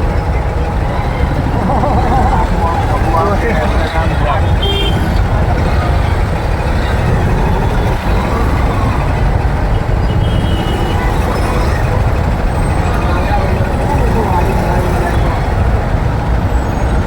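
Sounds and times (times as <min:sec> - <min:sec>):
motorbike engine rumble: 0:00.0 - 0:17.0.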